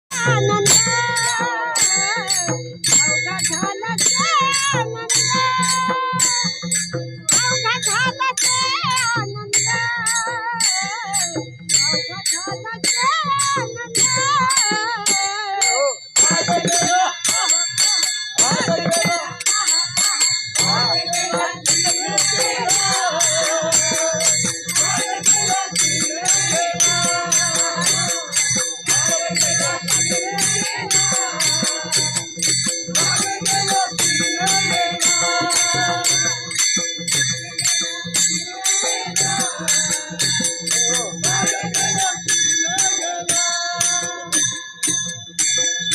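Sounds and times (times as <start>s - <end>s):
drum beat: 0.1s - 44.3s
person singing devotional song: 0.1s - 45.1s
hand cymbals ringing: 0.1s - 45.9s.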